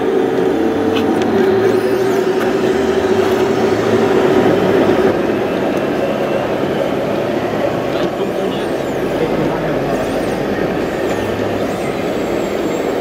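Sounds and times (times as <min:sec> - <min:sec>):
hydraulic pump whining: 0:00.1 - 0:13.0.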